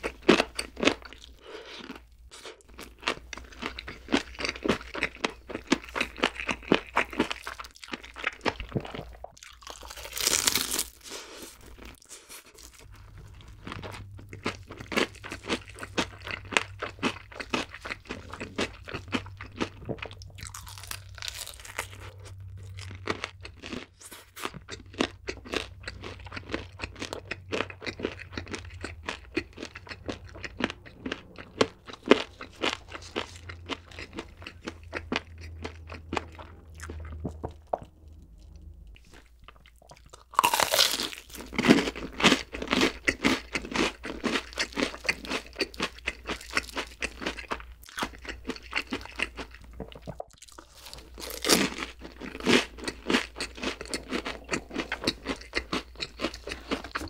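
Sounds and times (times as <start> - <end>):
loud crunchy bite: 0.0 - 37.2, 40.0 - 49.6, 50.3 - 57.0
crunchy chewing: 0.0 - 57.0.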